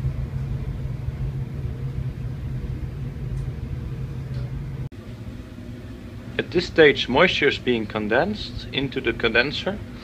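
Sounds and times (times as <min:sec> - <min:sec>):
rumbling background noise: 0:00.0 - 0:10.0
steady low hum: 0:00.0 - 0:10.0.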